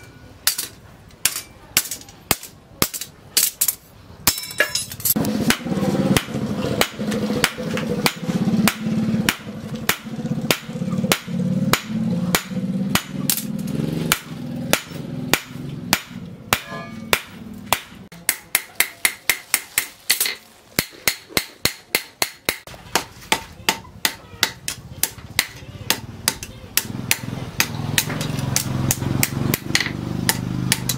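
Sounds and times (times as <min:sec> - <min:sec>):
hammer striking hot steel on anvil: 0:00.0 - 0:30.9.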